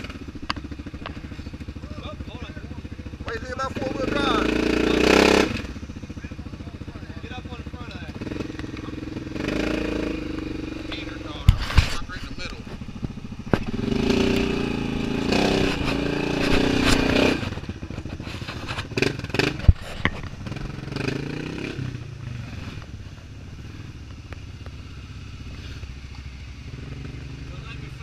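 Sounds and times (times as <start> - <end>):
quad engine revving: 0.0 - 28.0.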